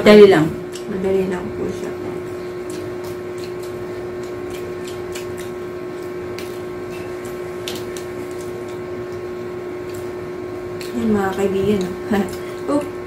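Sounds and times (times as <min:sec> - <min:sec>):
motor-like hum: 0:00.0 - 0:13.0.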